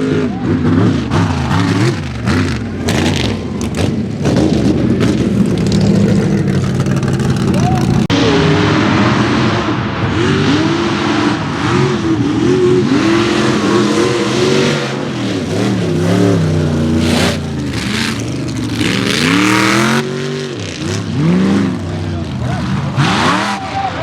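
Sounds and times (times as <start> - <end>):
loud dense rush of noise: 0.0 - 24.0
truck engine revving hard: 0.0 - 24.0.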